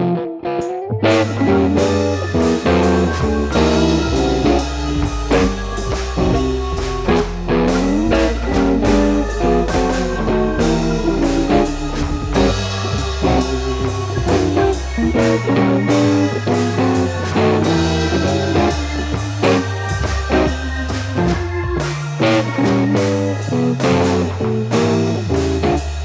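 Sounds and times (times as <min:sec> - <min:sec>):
blues-rock music with guitar: 0:00.0 - 0:26.0.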